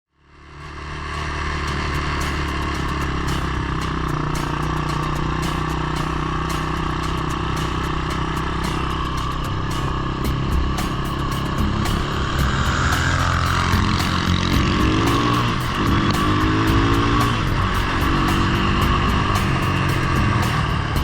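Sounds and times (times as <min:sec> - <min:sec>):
small engine running: 0:00.2 - 0:21.0.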